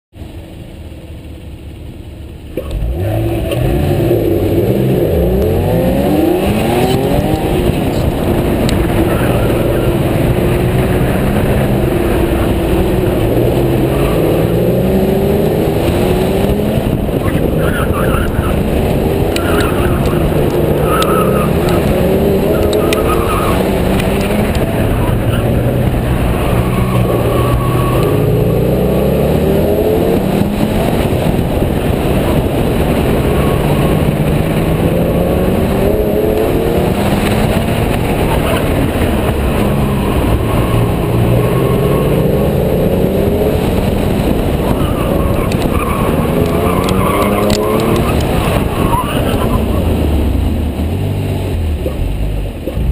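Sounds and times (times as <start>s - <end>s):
car engine revving hard: 2.6s - 52.9s.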